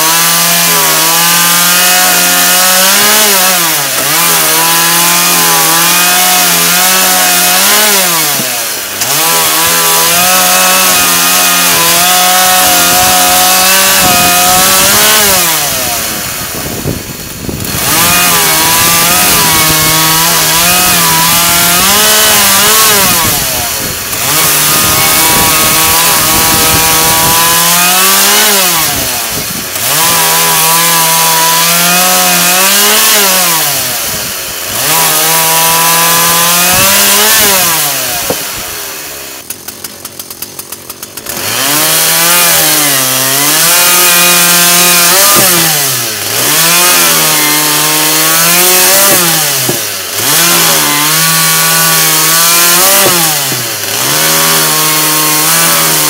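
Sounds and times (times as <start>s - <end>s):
chainsaw cutting logs: 0.0s - 56.0s.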